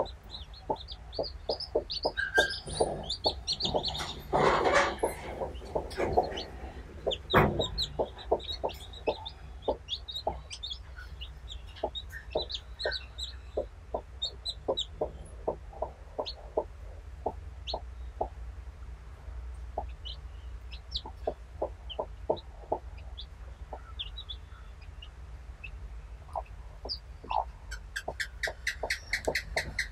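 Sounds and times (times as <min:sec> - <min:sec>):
chicks peeping: 0:00.0 - 0:18.4, 0:19.7 - 0:29.9
hen clucking: 0:00.0 - 0:18.4, 0:19.7 - 0:29.9.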